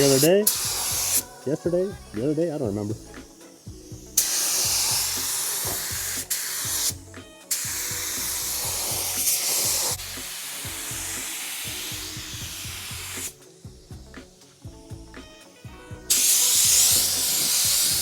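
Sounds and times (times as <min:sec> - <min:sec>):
air spray gun hissing: 0:00.0 - 0:18.0.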